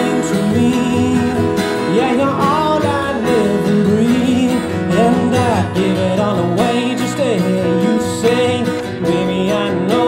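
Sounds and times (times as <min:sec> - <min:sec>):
keyboard: 0:00.0 - 0:10.0
man singing wordless melody: 0:00.0 - 0:10.0
strummed acoustic guitar: 0:00.0 - 0:10.0.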